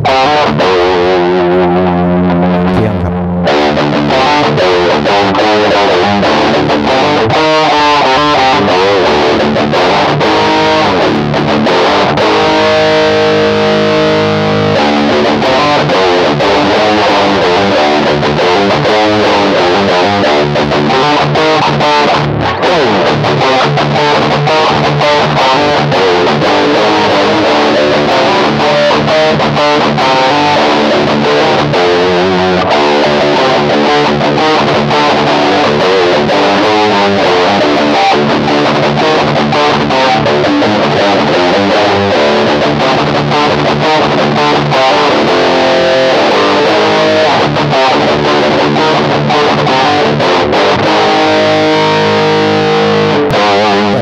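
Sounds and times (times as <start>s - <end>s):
distorted electric guitar riffs: 0.0s - 54.0s.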